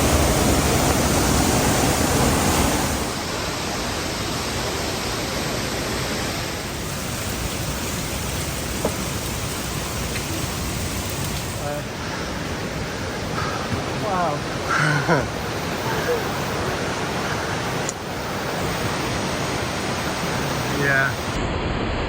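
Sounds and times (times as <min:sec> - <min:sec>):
water rushing: 0:00.0 - 0:21.6.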